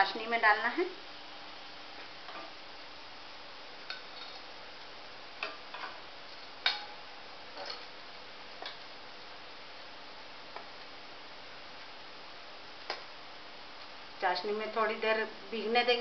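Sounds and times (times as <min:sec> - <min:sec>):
faint hiss and hum: 0:00.0 - 0:16.0.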